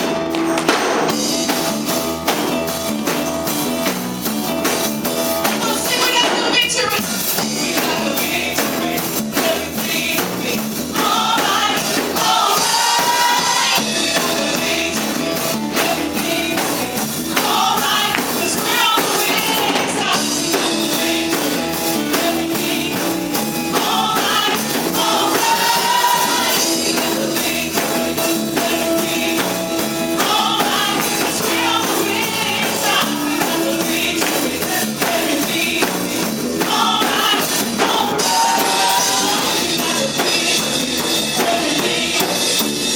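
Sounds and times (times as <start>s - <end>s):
drum beat: 0.0s - 42.9s
worship band music: 0.0s - 42.9s
voices singing: 5.3s - 42.9s.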